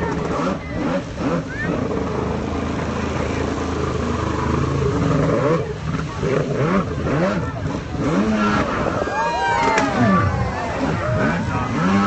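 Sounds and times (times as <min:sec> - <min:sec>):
jet ski engines revving: 0:00.0 - 0:12.0.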